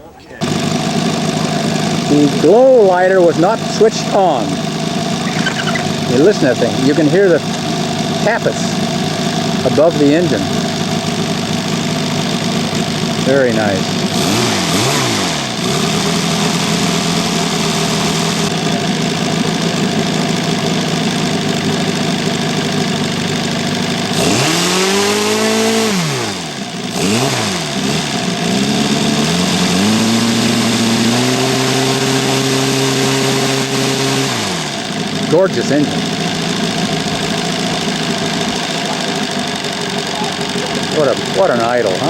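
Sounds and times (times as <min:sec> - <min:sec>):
model engine running: 0:00.0 - 0:42.0
engine tappets ticking: 0:00.4 - 0:42.0.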